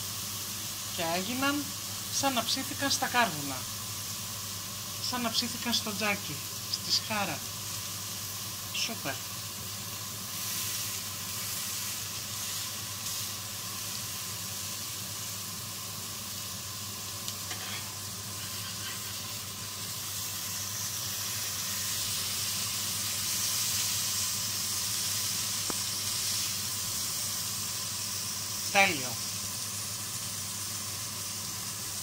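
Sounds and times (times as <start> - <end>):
meat patty sizzling: 0.0 - 32.0.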